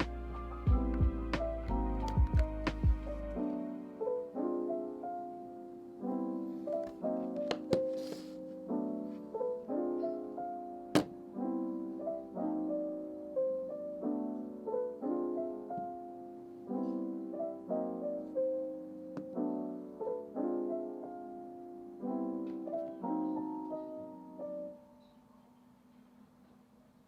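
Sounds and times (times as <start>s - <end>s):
piano chords: 0.0s - 26.0s.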